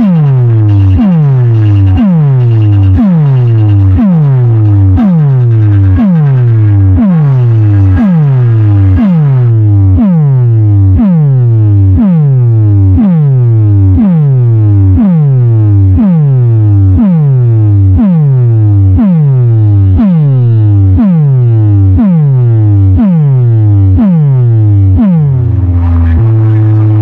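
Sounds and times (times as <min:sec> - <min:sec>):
synthesized bass drop: 0:00.0 - 0:27.0.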